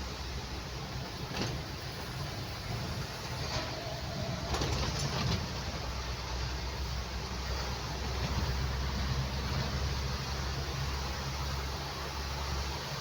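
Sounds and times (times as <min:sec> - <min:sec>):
engine and tyres rumbling: 0:00.0 - 0:13.0
rain hiss on wet road: 0:00.0 - 0:13.0.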